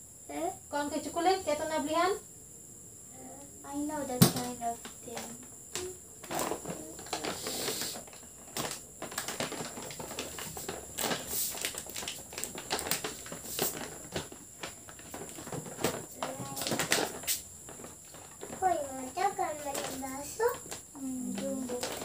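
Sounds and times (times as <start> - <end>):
plastic wrappers crinkling: 4.3 - 22.0.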